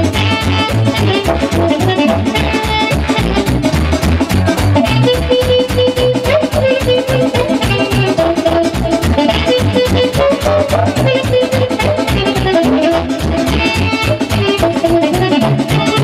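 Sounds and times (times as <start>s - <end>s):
instrumental dance music: 0.0s - 16.0s.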